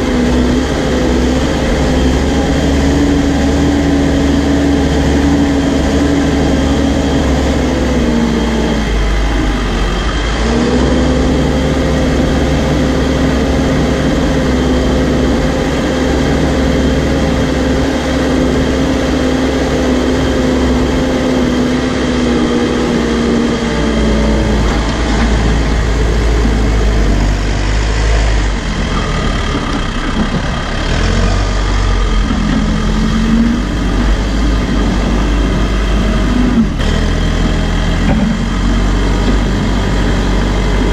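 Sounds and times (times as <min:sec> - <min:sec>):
backhoe diesel engine under load: 0:00.0 - 0:40.9.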